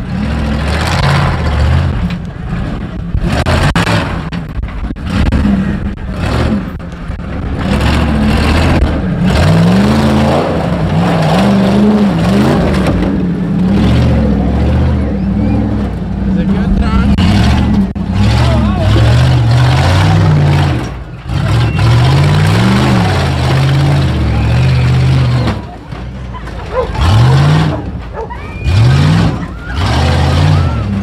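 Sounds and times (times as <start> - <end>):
engine revving: 0.0 - 31.0.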